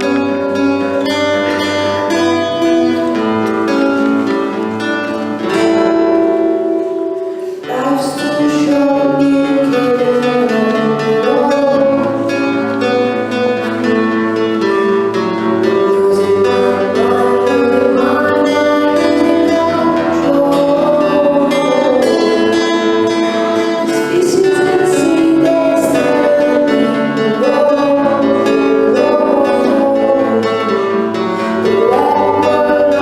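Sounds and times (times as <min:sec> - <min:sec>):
guitar playing: 0:00.0 - 0:33.0
person singing: 0:00.0 - 0:33.0.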